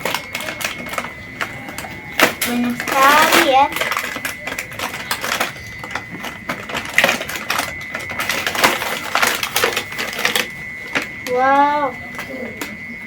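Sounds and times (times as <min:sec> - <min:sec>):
plastic toys and packaging clattering: 0:00.0 - 0:12.8
faint high whine: 0:00.0 - 0:13.0.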